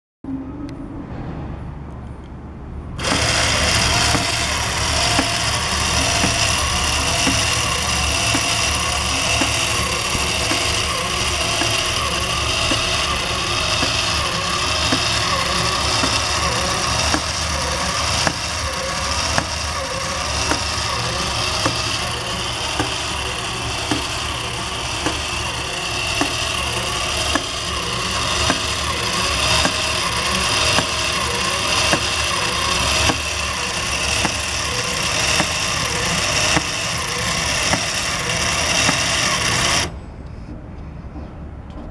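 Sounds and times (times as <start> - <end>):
short mechanical clicks: 3.0 - 40.0
small electric motor whirring: 3.0 - 40.0.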